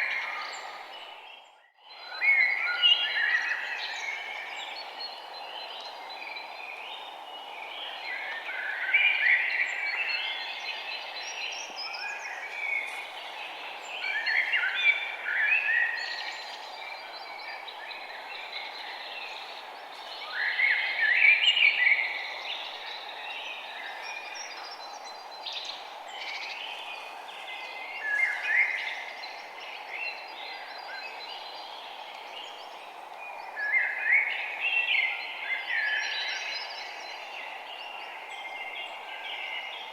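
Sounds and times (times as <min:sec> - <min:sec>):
songbirds chirping and trilling: 0:00.0 - 0:39.9
steady background hiss: 0:02.1 - 0:39.9.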